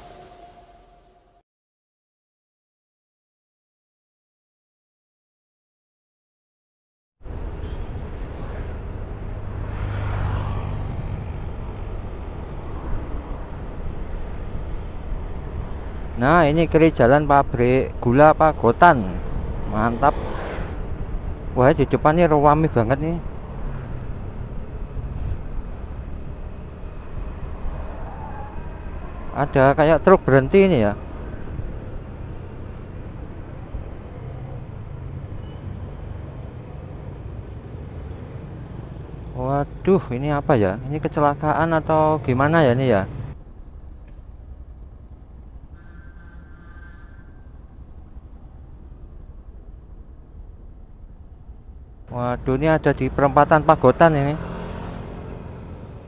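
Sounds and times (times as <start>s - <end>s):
passing traffic: 0.0s - 1.4s, 7.2s - 56.0s
road and wind noise: 7.2s - 56.0s.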